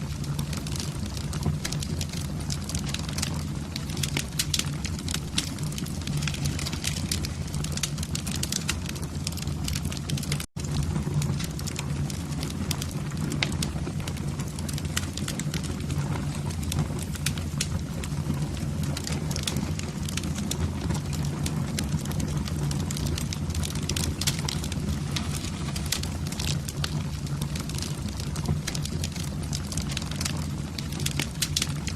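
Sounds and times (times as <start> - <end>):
low rumble of flames: 0.0 - 31.9
wood fire crackling and snapping: 0.0 - 31.9.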